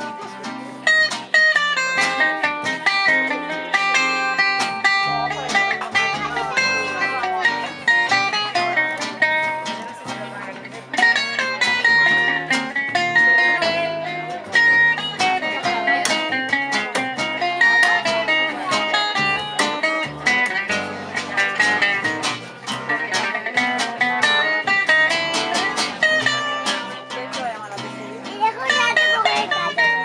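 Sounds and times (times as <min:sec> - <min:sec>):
live gypsy jazz band: 0:00.0 - 0:30.0
plucked guitar lines: 0:00.0 - 0:30.0
walking bass line: 0:00.0 - 0:30.0.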